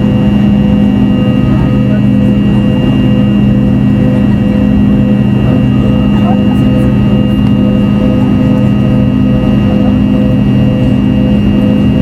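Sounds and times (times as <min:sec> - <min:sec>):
jet engine buzz in cabin: 0:00.0 - 0:12.0.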